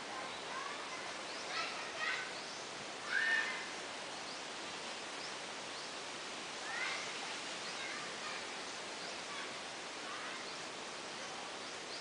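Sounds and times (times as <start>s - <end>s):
outdoor background hiss: 0.0s - 12.0s
faint bird chirps: 0.2s - 6.0s, 6.6s - 12.0s.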